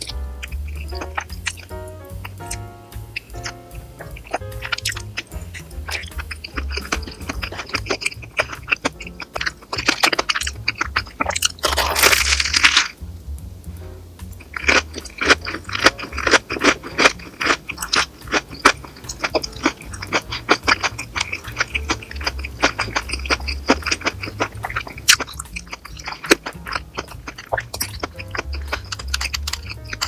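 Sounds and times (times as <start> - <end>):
crunchy chewing: 0.0 - 30.0.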